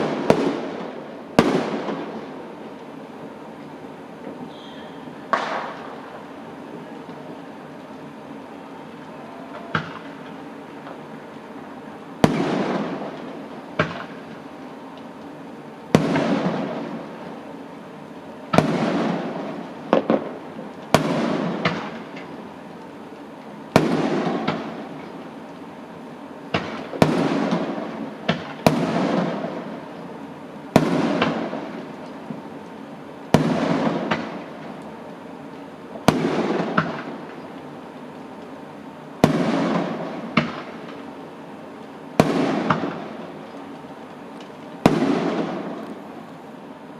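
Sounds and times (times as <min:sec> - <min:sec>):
fireworks exploding: 0:00.0 - 0:08.0, 0:08.6 - 0:14.7, 0:15.9 - 0:17.4, 0:18.5 - 0:22.6, 0:23.7 - 0:25.4, 0:26.5 - 0:35.0, 0:35.9 - 0:37.8, 0:39.1 - 0:46.7
fireworks rumble: 0:00.0 - 0:46.9.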